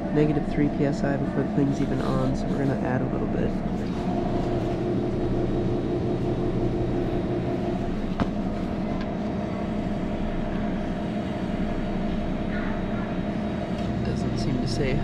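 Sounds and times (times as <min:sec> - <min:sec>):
condensing unit humming: 0:00.0 - 0:15.0.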